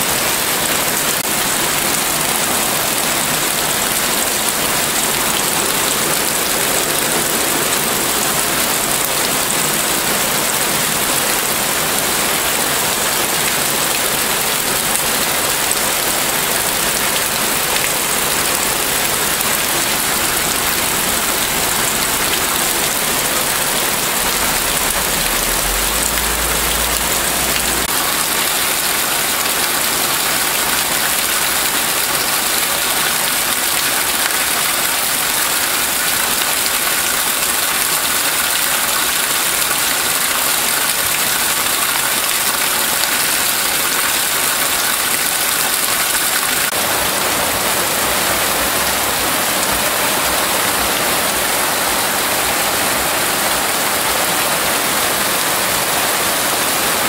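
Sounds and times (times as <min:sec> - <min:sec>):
heavy rain on gravel and grass: 0:00.0 - 0:57.0.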